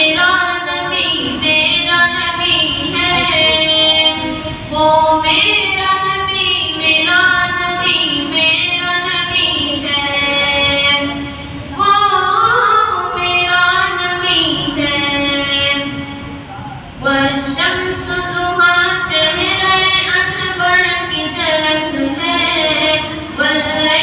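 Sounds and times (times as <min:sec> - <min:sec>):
boy singing into a microphone: 0:00.0 - 0:16.0, 0:17.0 - 0:24.0.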